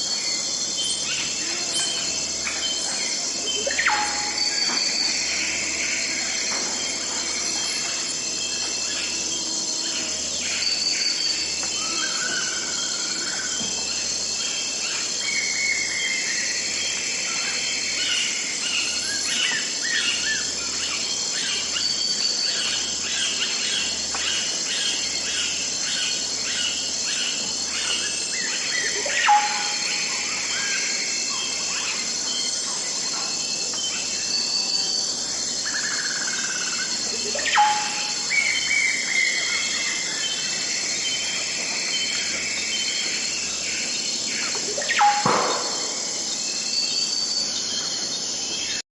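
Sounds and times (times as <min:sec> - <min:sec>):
birds chirping and whistling: 0:00.0 - 0:48.8
insects chorus: 0:00.0 - 0:48.8.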